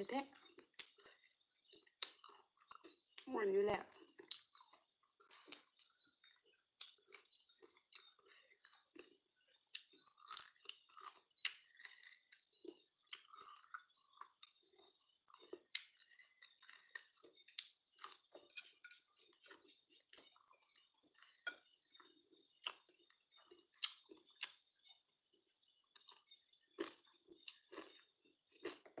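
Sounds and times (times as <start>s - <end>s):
person chewing food: 0.3s - 29.0s.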